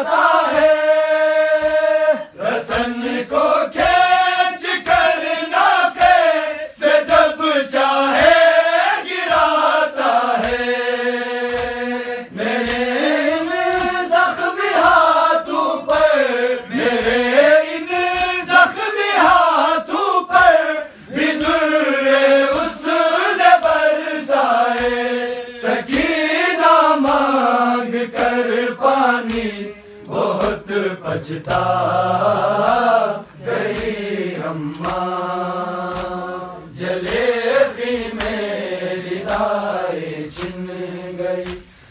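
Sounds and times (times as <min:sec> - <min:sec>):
men chanting together: 0:00.0 - 0:41.9
rhythmic chest-beating thumps: 0:00.0 - 0:41.9.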